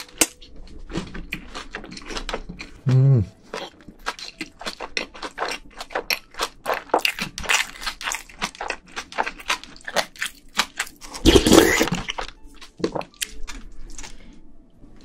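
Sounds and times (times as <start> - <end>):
close-miked chewing: 0.3 - 14.4.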